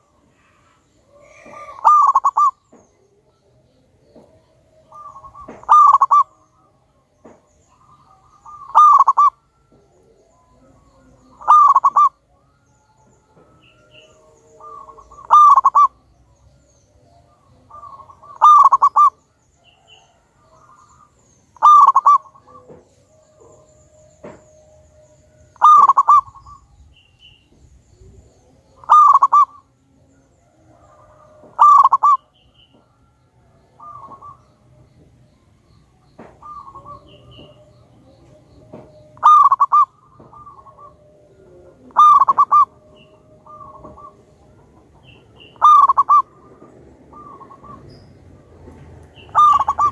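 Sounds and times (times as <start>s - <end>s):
dove cooing: 0.0s - 3.4s, 4.1s - 6.8s, 7.4s - 12.5s, 13.3s - 16.0s, 17.2s - 27.0s, 28.2s - 29.8s, 30.4s - 32.8s, 33.4s - 34.6s, 36.2s - 49.9s.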